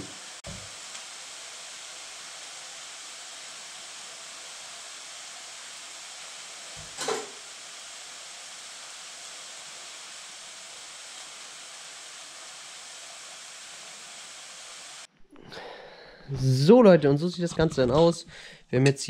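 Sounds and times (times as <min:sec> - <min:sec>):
kitchen background hiss: 0:00.0 - 0:19.0.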